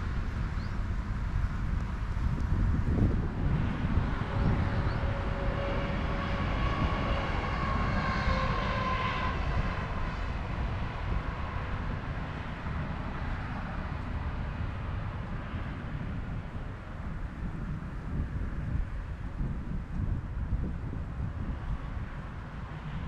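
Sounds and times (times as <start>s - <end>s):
turboprop aircraft passing: 0.0s - 23.0s.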